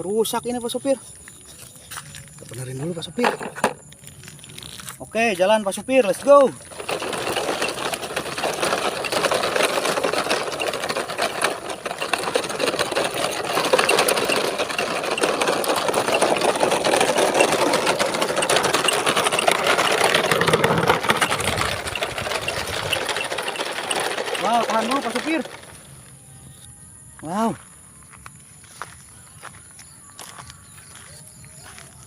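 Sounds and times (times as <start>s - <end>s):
fine continuous rattle: 0.0s - 26.7s
toy motor and gears whirring: 1.1s - 26.8s.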